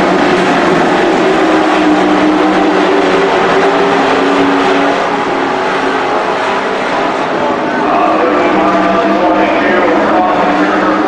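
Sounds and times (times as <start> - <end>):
race truck engines at speed: 0.0 - 11.0.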